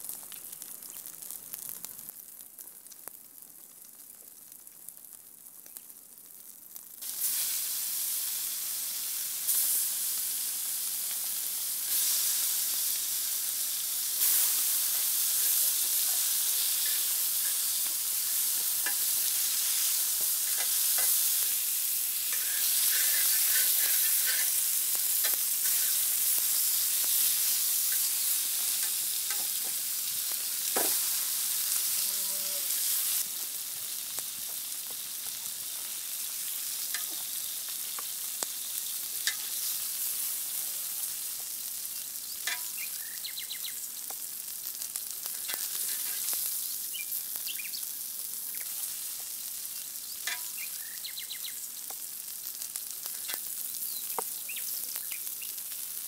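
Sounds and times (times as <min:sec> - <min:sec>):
meat sizzling over a fire: 0:00.0 - 0:56.0.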